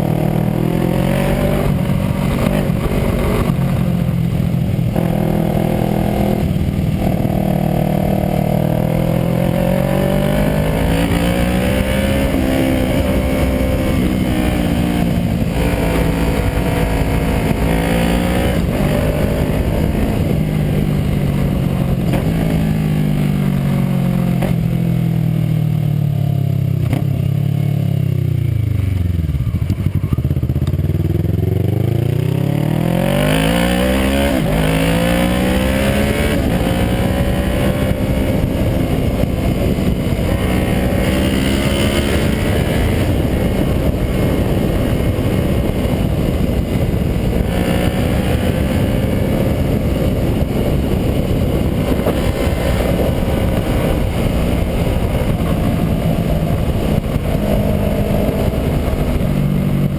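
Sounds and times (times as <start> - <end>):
wind rush on microphone: 0.0 - 25.4, 28.4 - 59.9
motorcycle engine revving: 0.0 - 59.9.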